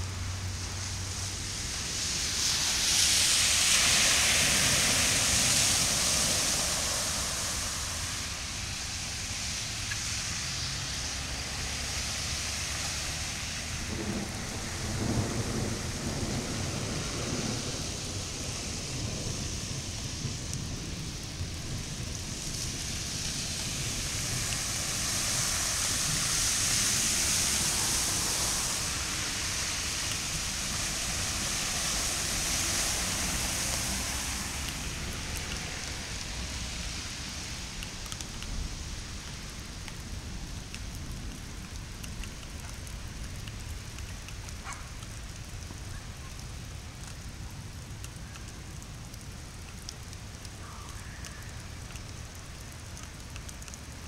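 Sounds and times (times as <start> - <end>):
cars splashing through floodwater: 0.0 - 54.0
rain hissing on flooded street: 0.0 - 54.0.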